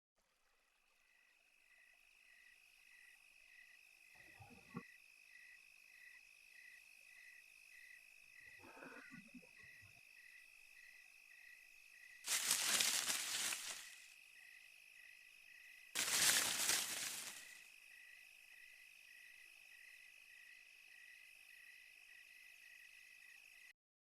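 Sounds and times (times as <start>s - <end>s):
crickets chirping: 0.6s - 23.7s
steady high insect buzz: 1.0s - 4.2s, 4.8s - 8.6s, 9.6s - 23.7s.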